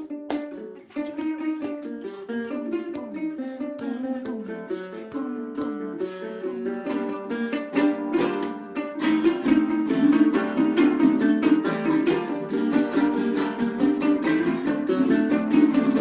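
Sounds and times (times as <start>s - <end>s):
plucked string instrument strumming: 0.0s - 16.0s.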